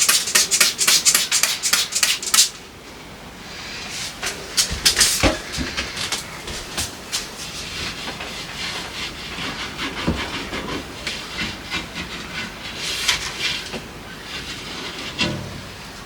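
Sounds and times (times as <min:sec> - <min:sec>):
steady hissing noise: 0:00.0 - 0:16.0.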